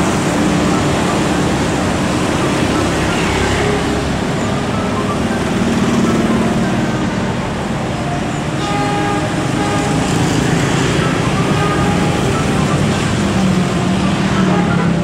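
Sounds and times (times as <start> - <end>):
diesel locomotive engine: 0.0 - 15.0
motorcycles and cars passing: 0.0 - 15.0.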